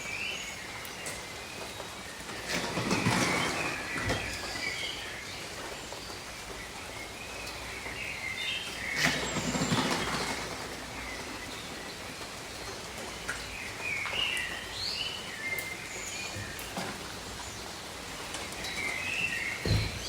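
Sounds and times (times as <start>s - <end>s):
birds chirping: 0.0s - 20.0s
steady rain: 0.0s - 20.0s
water dripping: 0.2s - 20.0s.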